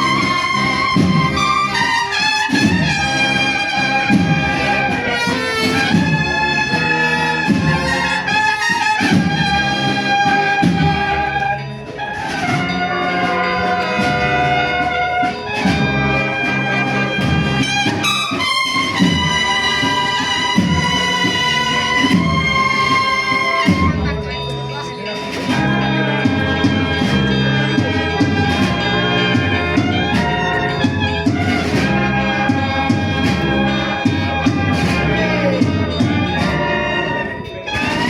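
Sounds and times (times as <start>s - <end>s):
repeating brass bass line: 0.0s - 24.2s, 25.5s - 38.0s
trumpets playing melody: 0.0s - 24.2s, 25.3s - 38.0s.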